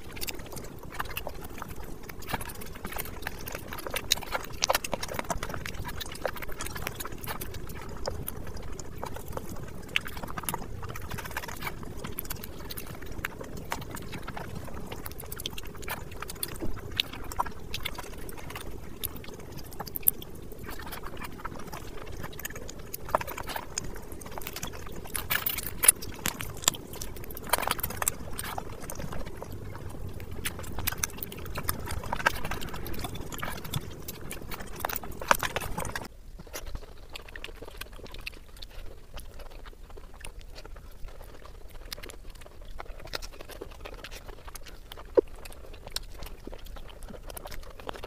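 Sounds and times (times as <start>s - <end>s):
fingers squelching food: 0.0s - 48.0s
lip smacks: 0.0s - 48.0s
mouth clicks: 0.0s - 48.0s
wet chewing: 0.0s - 48.0s.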